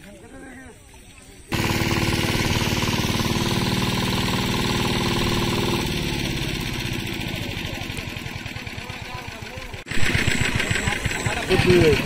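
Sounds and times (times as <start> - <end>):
small engine knocking: 1.5 - 12.0.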